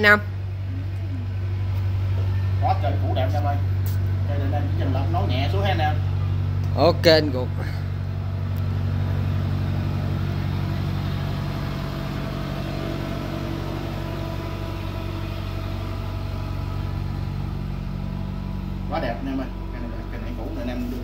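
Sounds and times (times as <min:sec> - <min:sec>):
motor humming steadily: 0:00.0 - 0:21.0.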